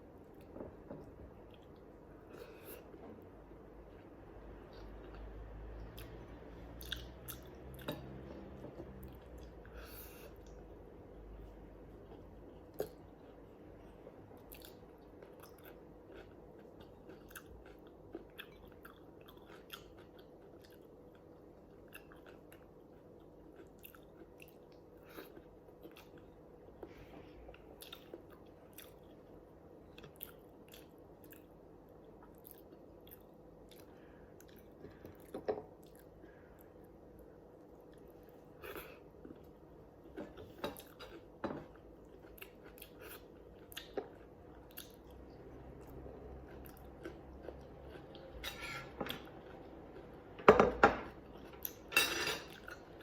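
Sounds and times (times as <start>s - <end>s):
faint steady hum: 0.0s - 53.0s
person chewing food: 3.8s - 10.7s, 11.4s - 50.4s.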